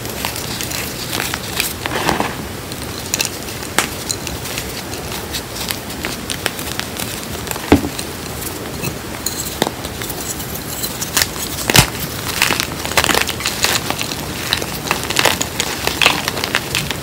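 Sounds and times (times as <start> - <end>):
chalk chunks snapping: 0.0 - 17.0
chalk crunching and crumbling: 0.0 - 17.0.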